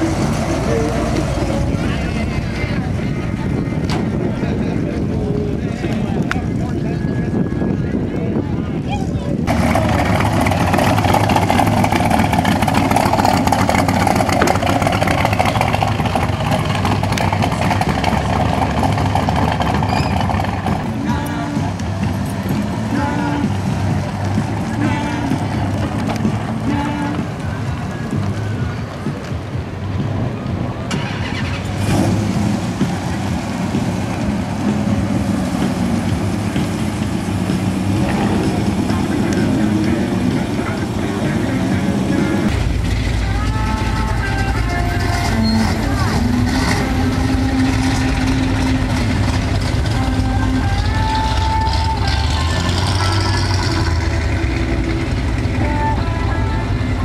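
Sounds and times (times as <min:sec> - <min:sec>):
car engine running at low speed: 0:09.4 - 0:57.0.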